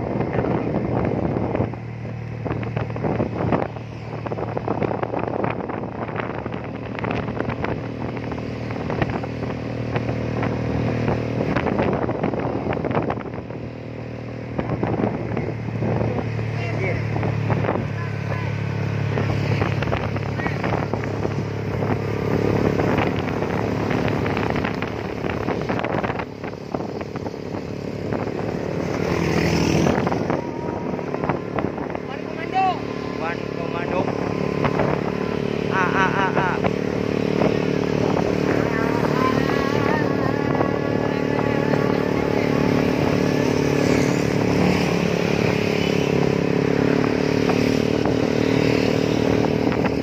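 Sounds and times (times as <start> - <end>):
motorcycles and scooters running: 0.0 - 50.0.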